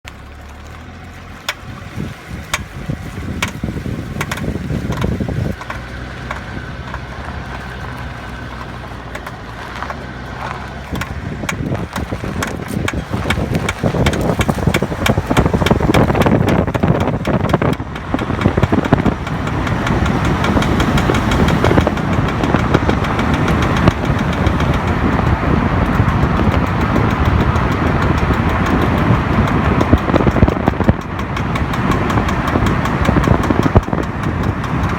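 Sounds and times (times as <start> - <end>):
road and drivetrain rumble: 0.0 - 34.9
knocking from car rear drive: 1.4 - 34.9.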